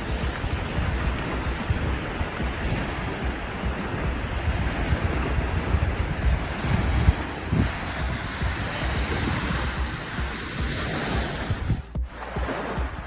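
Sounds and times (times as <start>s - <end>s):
water rushing: 0.0s - 13.0s
wind rumbling on microphone: 0.0s - 13.0s.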